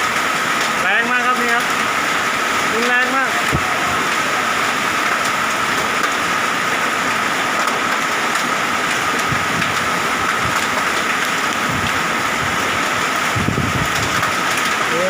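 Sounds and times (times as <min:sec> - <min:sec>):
hailstones ticking: 0:00.0 - 0:15.0
heavy rain: 0:00.0 - 0:15.0.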